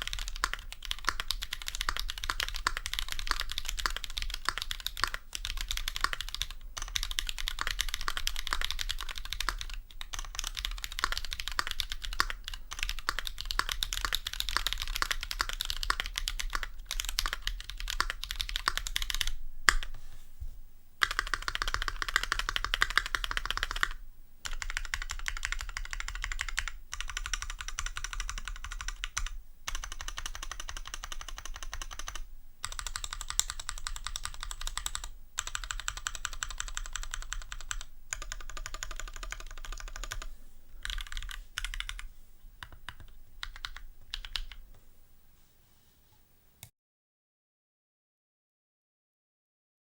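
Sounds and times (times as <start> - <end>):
mechanical keyboard typing: 0.0 - 19.9, 21.0 - 44.6.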